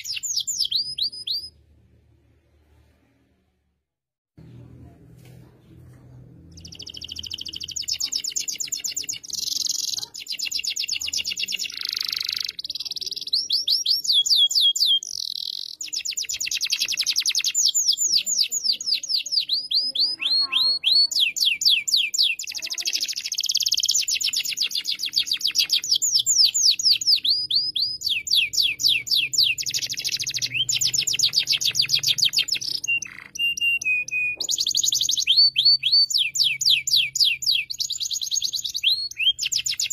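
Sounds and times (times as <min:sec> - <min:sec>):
canary singing trills: 0:00.0 - 0:01.6, 0:06.5 - 0:39.9.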